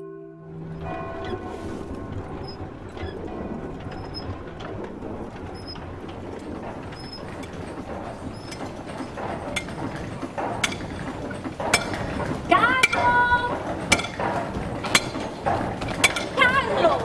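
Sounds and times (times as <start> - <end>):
forge rumbling: 0.4 - 17.0
hammer striking anvil: 0.6 - 16.6.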